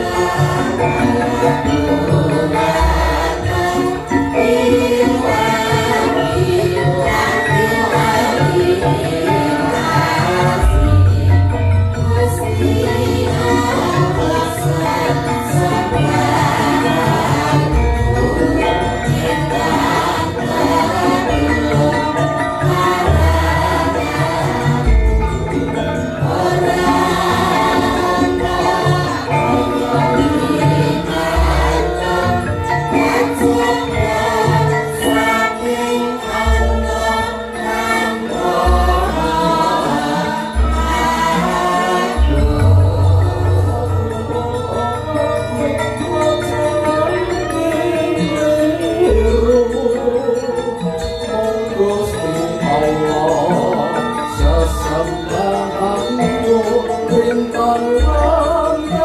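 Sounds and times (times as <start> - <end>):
gamelan ensemble playing: 0.0 - 59.0
voices singing: 0.0 - 59.0.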